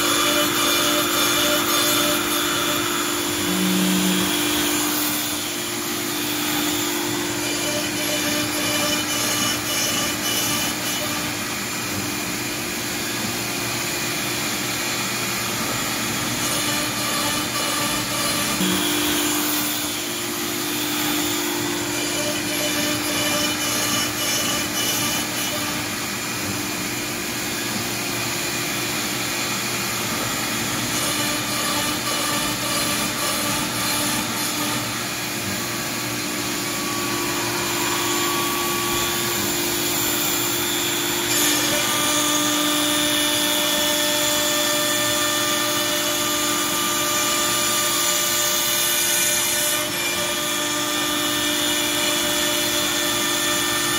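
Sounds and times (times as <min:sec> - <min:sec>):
router spindle whine: 0:00.0 - 0:53.9.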